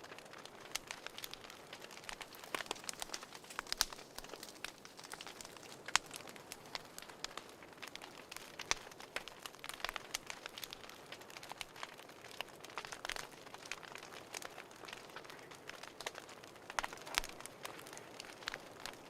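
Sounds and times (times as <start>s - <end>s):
fire pops and snaps: 0.0s - 19.0s
soft fire hiss: 0.0s - 19.0s.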